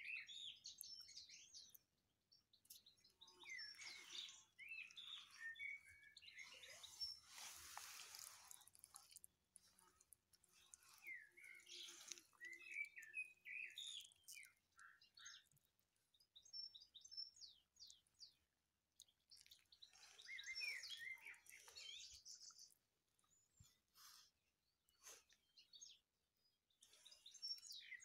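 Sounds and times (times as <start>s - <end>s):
faint birdsong chirping: 0.0s - 28.0s.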